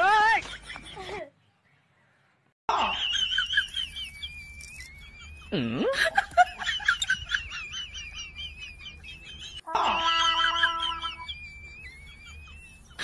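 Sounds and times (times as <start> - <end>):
birds chirping: 0.2 - 9.7, 10.4 - 13.0.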